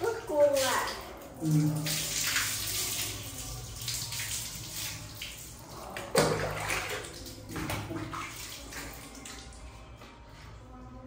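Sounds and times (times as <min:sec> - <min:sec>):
water splashing on tiled floor: 0:00.0 - 0:09.7.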